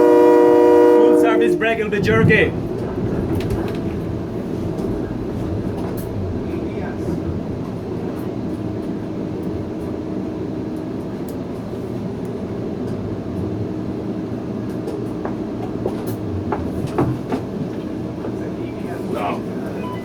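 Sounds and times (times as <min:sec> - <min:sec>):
train low rumble: 0:00.0 - 0:20.0.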